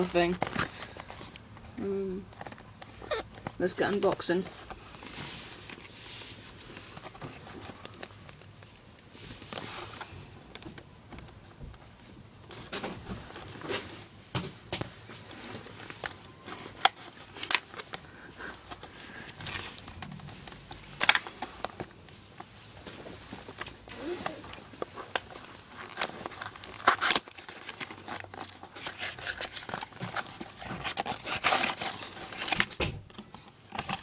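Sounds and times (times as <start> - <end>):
packaging rustling and clicking: 0.0 - 13.9, 14.7 - 34.0.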